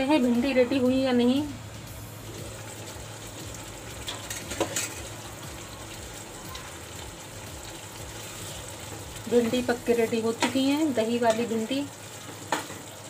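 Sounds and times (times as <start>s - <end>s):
gravy simmering with sizzle: 0.0s - 13.0s.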